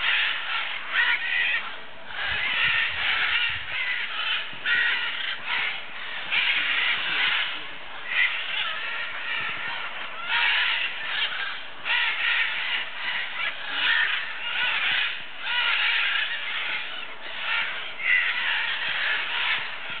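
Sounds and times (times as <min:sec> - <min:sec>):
macaws squawking: 0:00.0 - 0:20.0.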